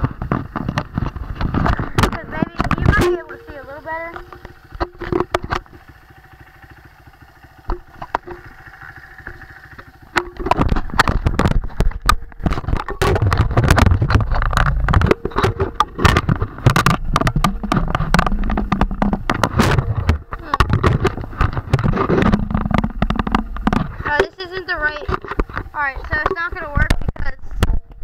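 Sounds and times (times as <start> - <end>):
dirt bike engine revving: 0.0 - 28.0
knocks and rattles on camera: 0.0 - 28.0.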